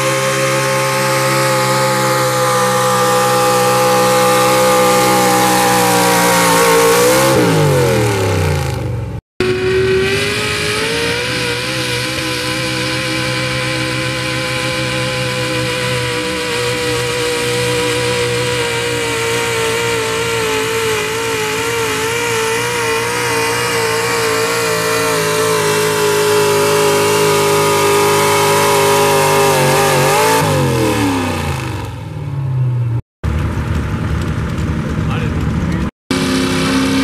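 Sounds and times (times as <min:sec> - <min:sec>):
truck engine at high revs: 0:00.0 - 0:37.0.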